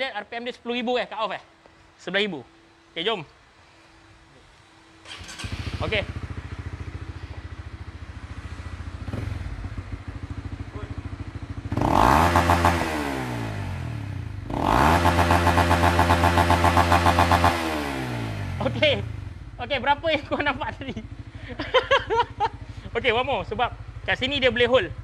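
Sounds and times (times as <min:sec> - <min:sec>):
motorcycle engine idling and revving: 0:04.6 - 0:25.0.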